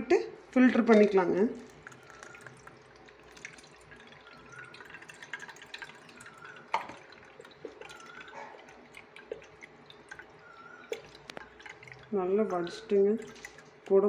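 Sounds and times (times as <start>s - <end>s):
juice trickling through strainer: 0.4s - 14.0s.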